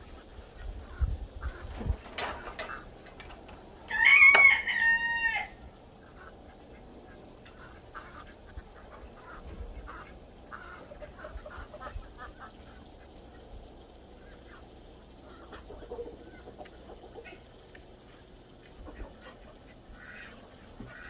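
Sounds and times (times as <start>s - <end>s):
ducks quacking: 0.0s - 2.0s, 6.0s - 21.0s.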